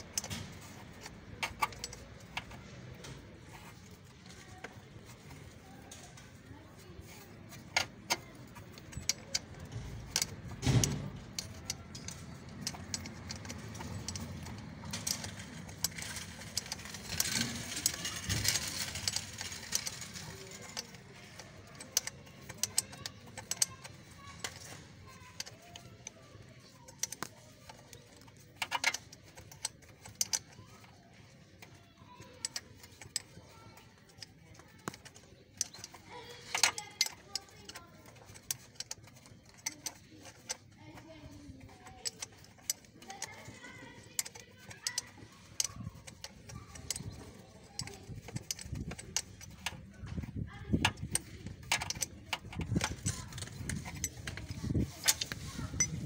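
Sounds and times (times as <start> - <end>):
spanner clicking on metal: 0.0 - 56.0.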